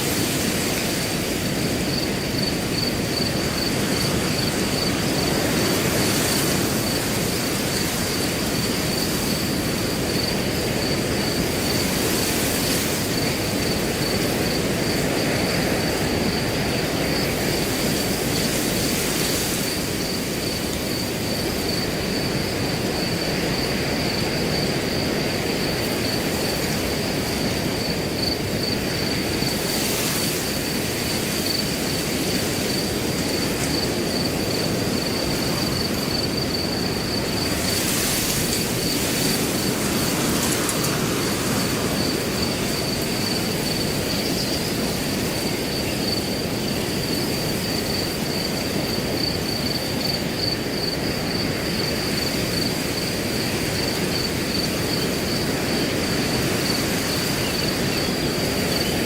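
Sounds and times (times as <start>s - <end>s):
cricket trilling: 0.0s - 59.0s
wind blowing through grass: 0.0s - 59.0s.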